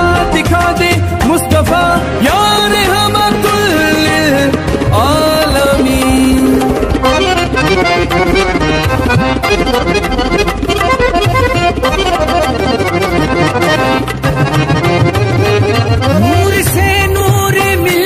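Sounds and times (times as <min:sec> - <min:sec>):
reed-like melody: 0:00.0 - 0:18.0
steady drum beat: 0:00.0 - 0:18.0.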